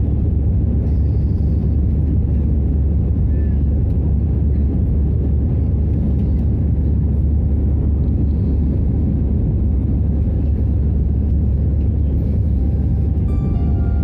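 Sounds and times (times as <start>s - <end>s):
airflow over fuselage: 0.0s - 14.0s
jet engines rumbling in cabin: 0.0s - 14.0s.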